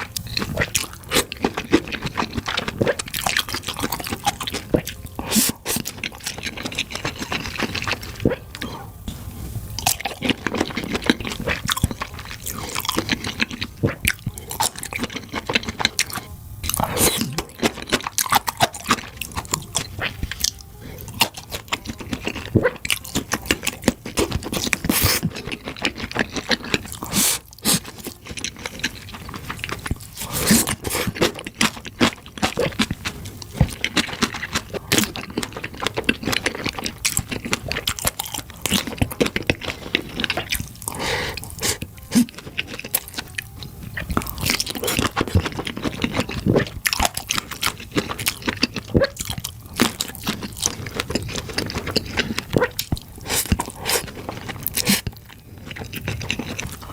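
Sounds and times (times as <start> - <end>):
chewing and biting sausages: 0.0 - 56.9.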